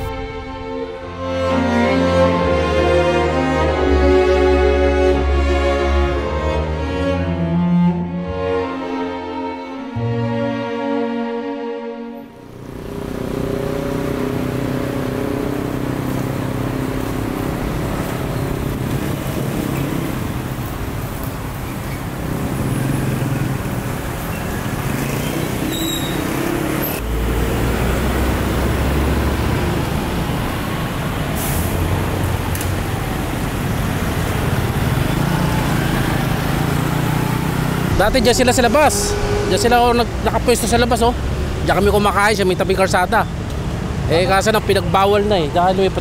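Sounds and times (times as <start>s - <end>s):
cars and trucks passing: 0.0s - 11.2s, 12.0s - 46.0s.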